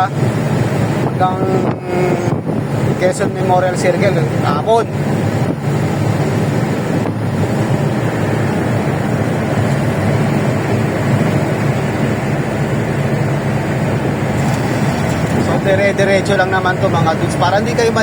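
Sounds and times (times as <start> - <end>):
vehicle road noise hum: 0.0 - 18.0
wind on microphone: 0.0 - 18.0.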